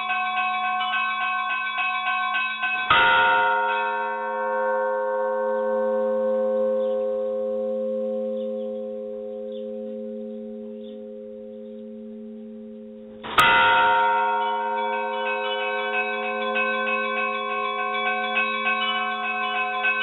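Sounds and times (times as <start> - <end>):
church bell ringing: 0.0 - 20.0.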